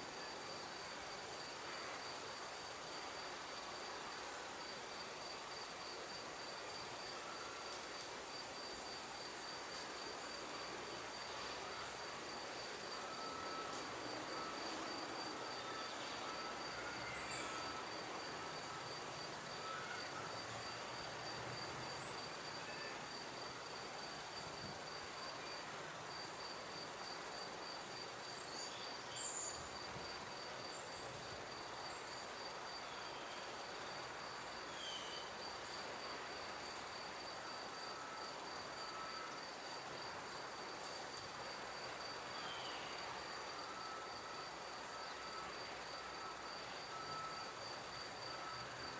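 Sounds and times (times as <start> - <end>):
cricket chirping: 0.1 - 48.9.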